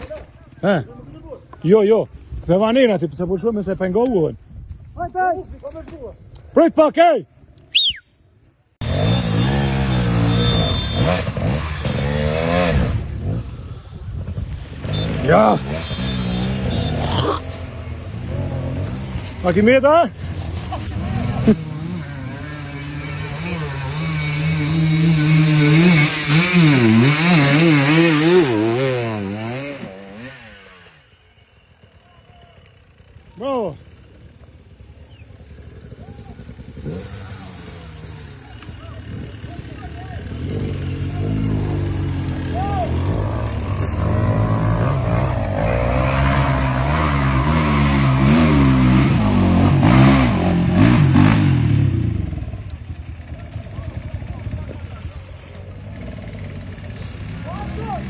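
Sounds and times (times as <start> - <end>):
motorcycle engine revving: 8.8 - 58.0.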